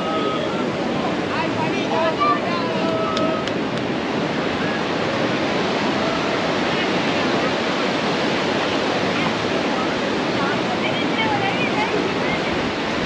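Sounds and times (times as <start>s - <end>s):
faint voices: 0.0s - 13.0s
ocean surf breaking on beach: 0.0s - 13.0s.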